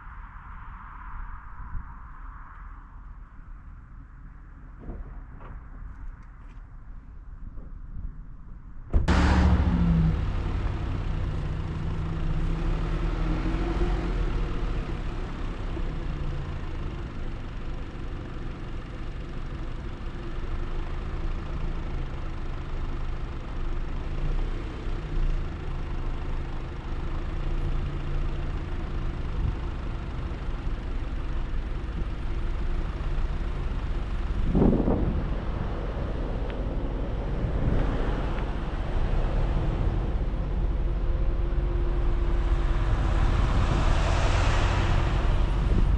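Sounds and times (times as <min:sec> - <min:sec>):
car tyres and engine rumble: 0:00.0 - 0:45.9.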